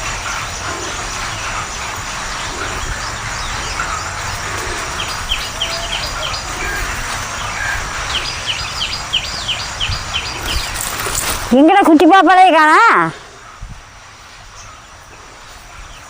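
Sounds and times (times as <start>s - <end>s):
bird chirping: 0.0s - 13.7s.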